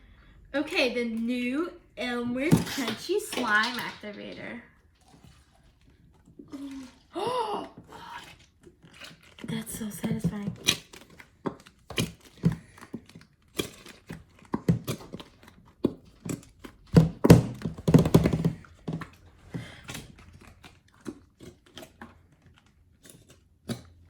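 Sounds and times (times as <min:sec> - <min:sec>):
slime squelching: 0:00.0 - 0:24.0.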